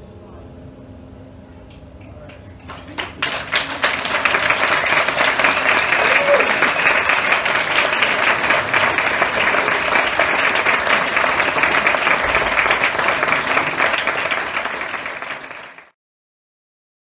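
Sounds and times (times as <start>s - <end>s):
audience applause: 2.2s - 16.0s.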